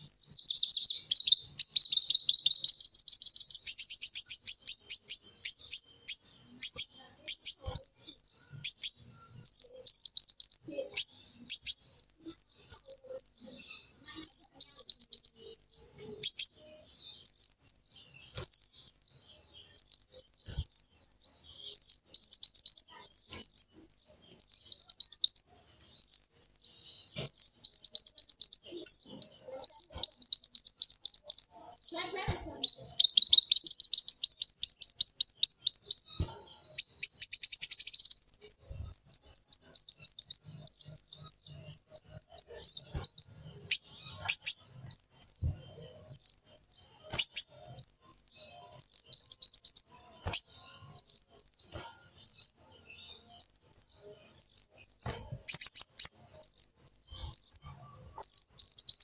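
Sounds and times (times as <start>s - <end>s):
sunbird singing: 0.0s - 59.0s.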